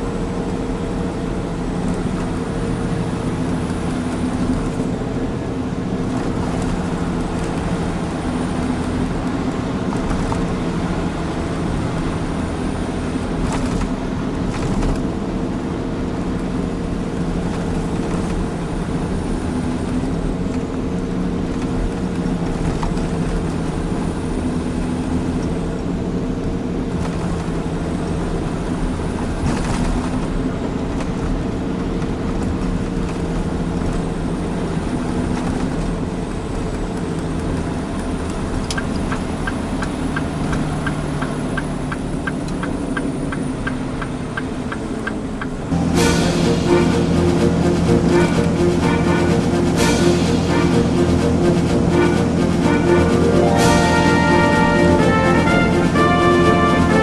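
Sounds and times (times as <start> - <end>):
road and tyre noise: 0.0 - 53.7
diesel engine drone: 0.0 - 57.0.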